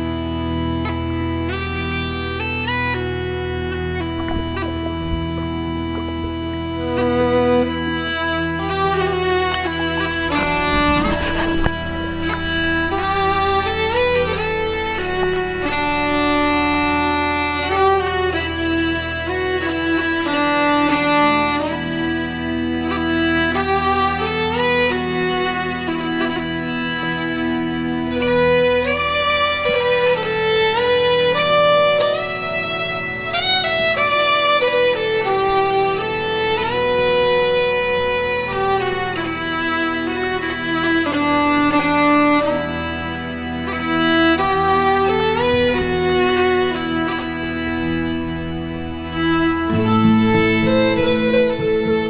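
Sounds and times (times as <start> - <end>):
sliding melody over low drone: 0.0 - 52.0
steady musical accompaniment: 0.0 - 52.0.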